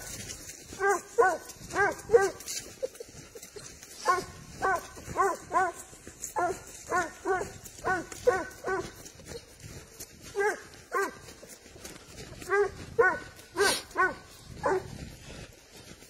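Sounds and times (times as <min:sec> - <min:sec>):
hound baying: 0:00.0 - 0:15.1.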